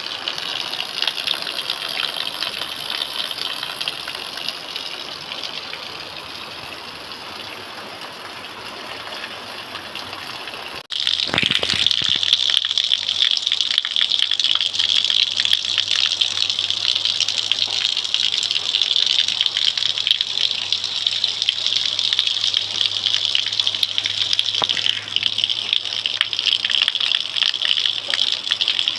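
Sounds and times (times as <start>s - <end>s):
heavy rain: 0.0s - 28.9s.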